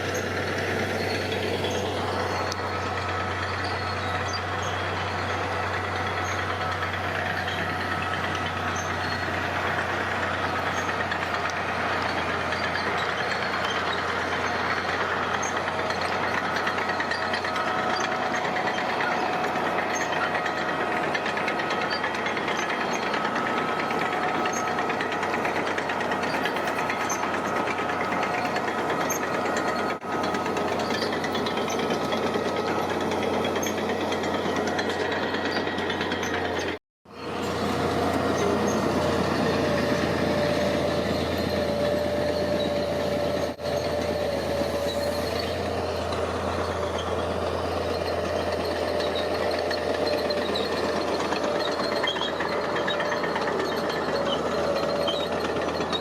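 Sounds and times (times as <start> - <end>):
heavy diesel machinery clattering: 0.0 - 56.0.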